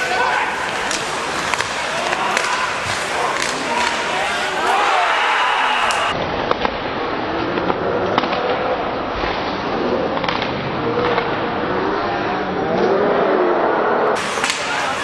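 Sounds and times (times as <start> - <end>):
hockey sticks and puck clacking: 0.0 - 11.4, 14.2 - 15.0
crowd noise: 0.0 - 15.0.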